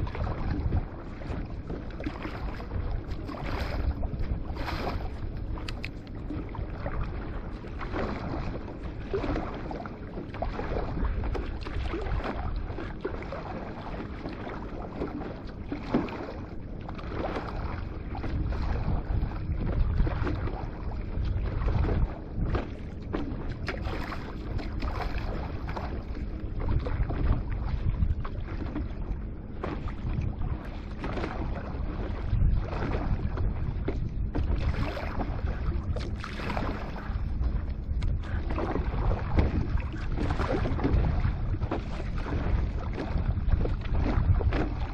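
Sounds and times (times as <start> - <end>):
water splashing against a board: 0.0 - 44.9
wind on microphone: 0.0 - 44.9.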